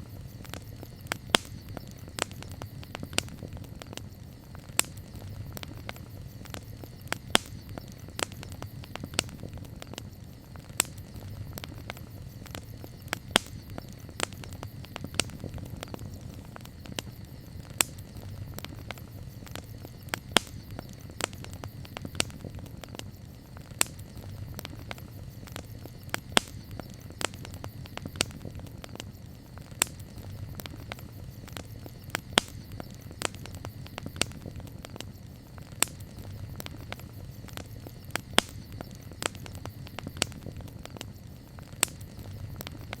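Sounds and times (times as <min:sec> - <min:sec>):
campfire crackling: 0:00.0 - 0:43.0
fire pops and snaps: 0:00.0 - 0:43.0.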